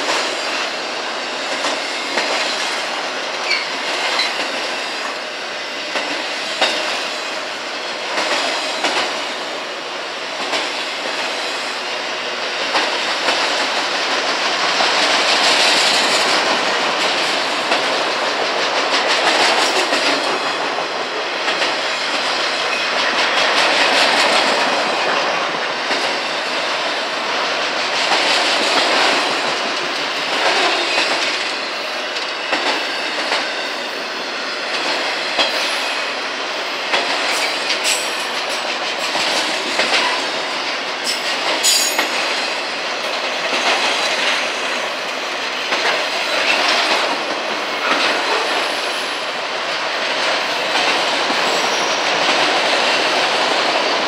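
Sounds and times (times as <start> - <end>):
wheels clacking over rail joints: 0.0 - 5.2, 5.9 - 9.4, 12.2 - 33.8, 36.8 - 54.0
train wheels rumbling on rail: 0.0 - 54.0.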